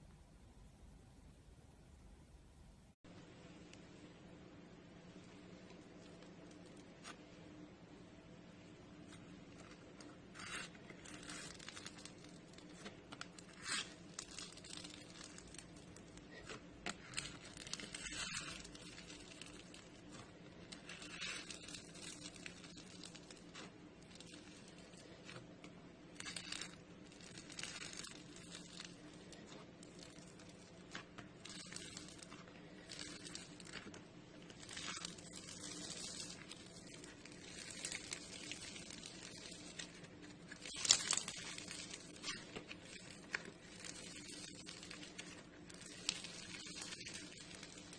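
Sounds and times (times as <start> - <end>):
faint steady hum: 0.0 - 47.9
hands squishing slime: 9.0 - 47.9.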